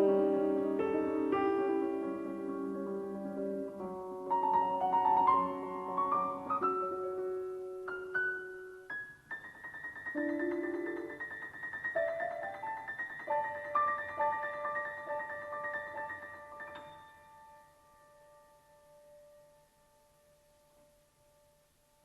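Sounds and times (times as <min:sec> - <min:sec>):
solo classical piano: 0:00.0 - 0:22.0.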